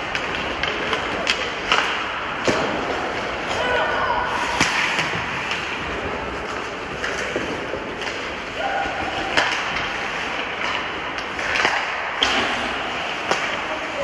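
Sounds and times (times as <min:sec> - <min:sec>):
hockey sticks and puck clacking: 0:00.0 - 0:14.0
skates scraping ice: 0:00.0 - 0:14.0.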